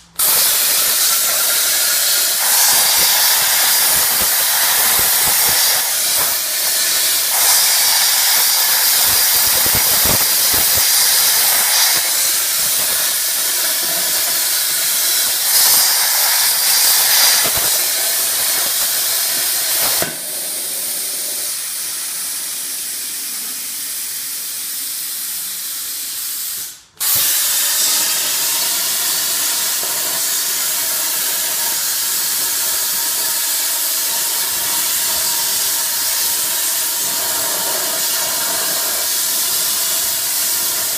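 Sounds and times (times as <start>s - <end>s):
plasma cutter hissing: 0.0s - 40.9s.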